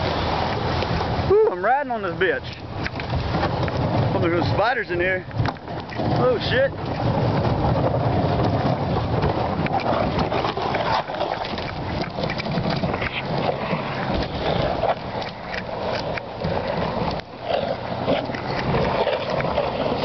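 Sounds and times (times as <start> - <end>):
boat hull scraping ground: 1.8 - 20.0.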